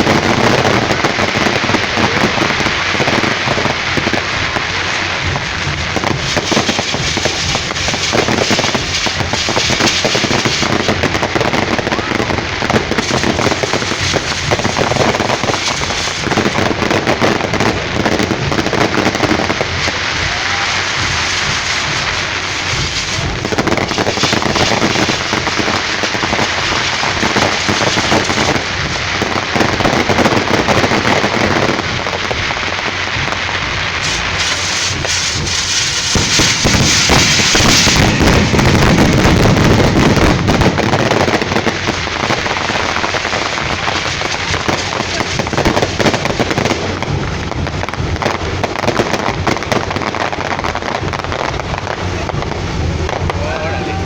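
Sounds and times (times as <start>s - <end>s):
firecrackers and fireworks crackling: 0.0s - 54.0s.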